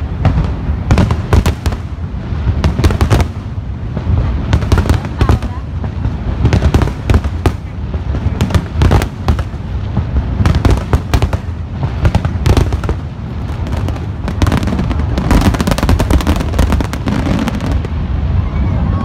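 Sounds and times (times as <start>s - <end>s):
continuous low rumble: 0.0s - 19.0s.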